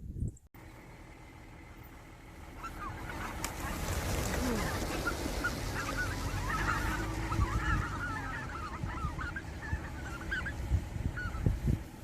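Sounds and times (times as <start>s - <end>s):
flock of birds calling: 0.6s - 12.0s.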